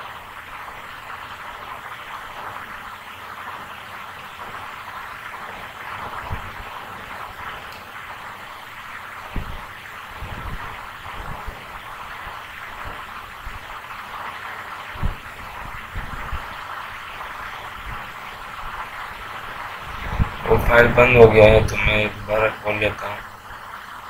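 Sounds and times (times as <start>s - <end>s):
recording hiss: 0.0s - 24.0s.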